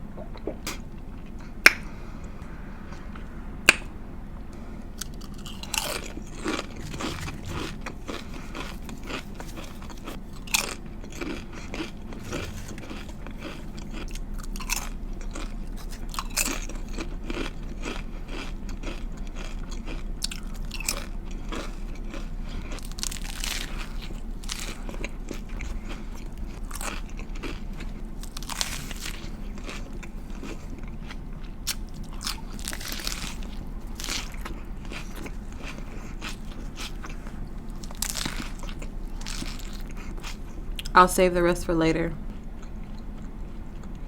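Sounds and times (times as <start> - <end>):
crisp crunching and chewing: 5.0 - 41.0, 42.2 - 44.0.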